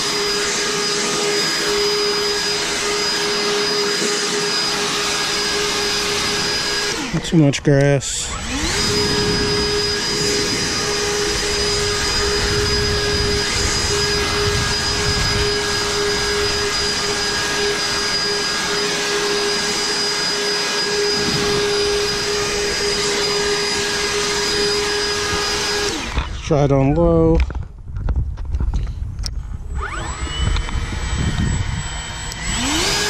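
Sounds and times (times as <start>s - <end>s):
leaf blower running: 0.0s - 26.7s, 29.5s - 33.0s.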